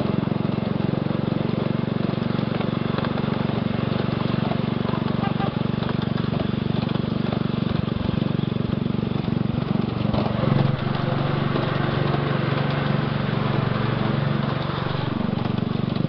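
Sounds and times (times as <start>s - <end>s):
small locomotive engine pulsing: 0.0s - 16.0s.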